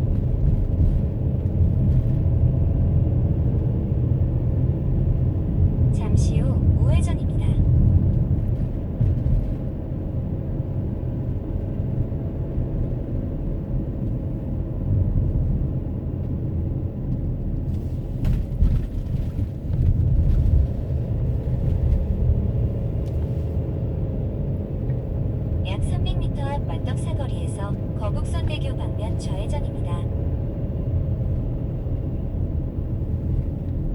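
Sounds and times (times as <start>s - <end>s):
car interior road rumble: 0.0s - 33.9s.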